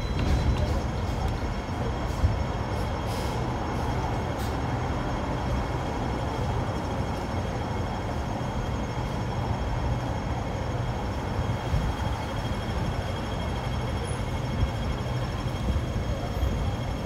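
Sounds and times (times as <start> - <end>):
thin steady whine: 0.0 - 17.0
tram rumbling on rails: 0.0 - 17.0.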